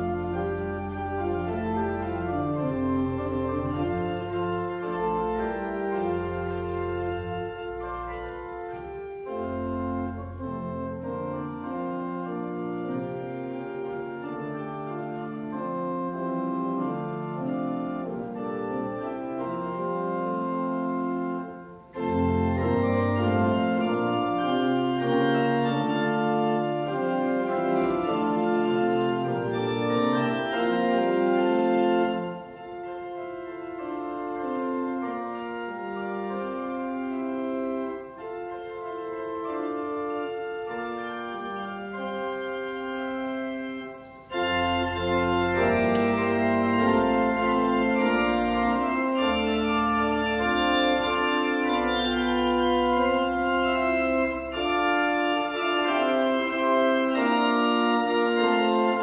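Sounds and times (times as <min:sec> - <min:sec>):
deep organ pedal bass: 0:00.0 - 0:59.0
organ playing sustained chords: 0:00.0 - 0:59.0.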